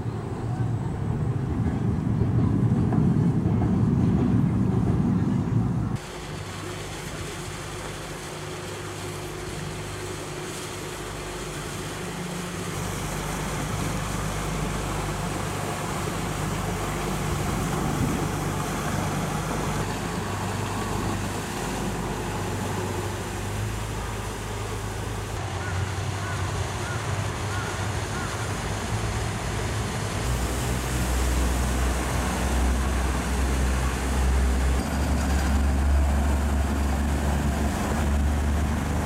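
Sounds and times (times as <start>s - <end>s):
boat engine humming: 0.0s - 39.0s.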